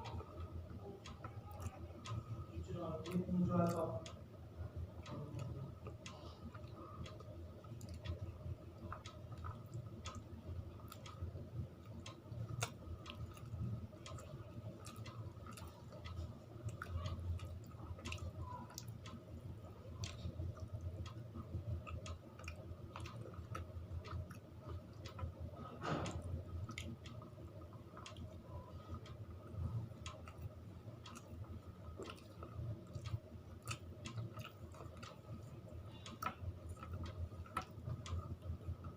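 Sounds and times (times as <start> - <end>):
person chewing food: 5.0 - 38.9.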